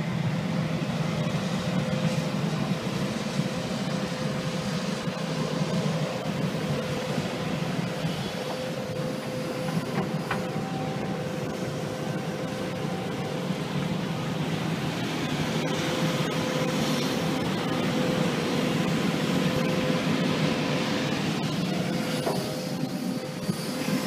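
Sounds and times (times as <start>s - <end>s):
diesel engines running: 0.0s - 24.0s
steady whine: 0.0s - 24.0s.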